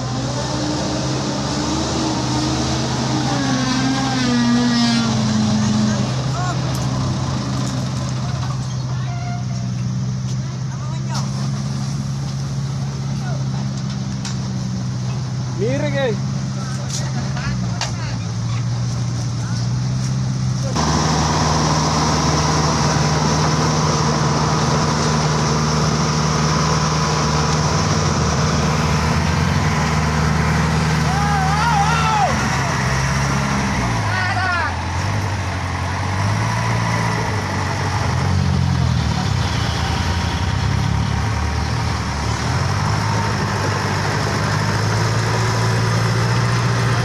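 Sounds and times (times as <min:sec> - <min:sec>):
truck engine idling: 0:00.0 - 0:47.0.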